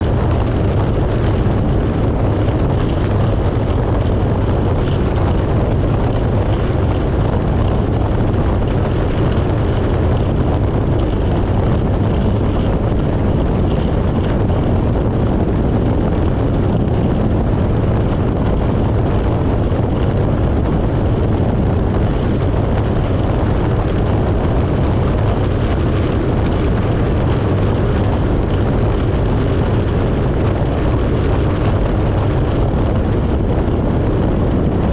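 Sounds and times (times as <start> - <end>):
jet ski engine droning: 0.0 - 34.9.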